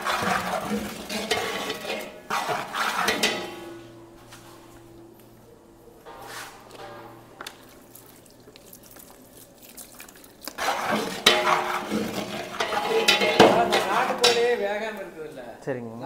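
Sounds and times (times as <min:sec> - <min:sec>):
paddle stirring in a metal pot: 0:00.0 - 0:04.7, 0:06.1 - 0:14.8.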